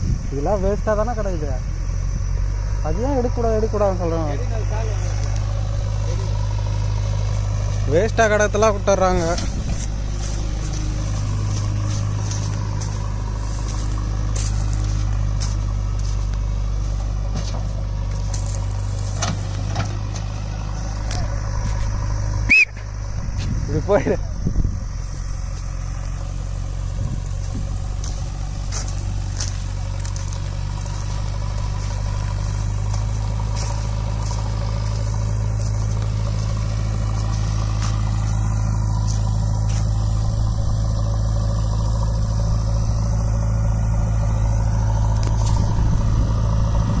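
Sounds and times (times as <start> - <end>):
backhoe diesel engine running: 0.0 - 47.0.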